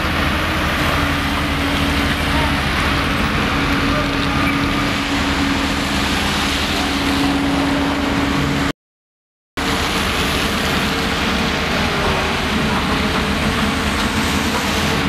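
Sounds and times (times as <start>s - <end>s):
cars passing on wet road: 0.0s - 8.7s, 9.6s - 15.0s
diesel engines humming: 0.0s - 8.7s, 9.6s - 15.0s.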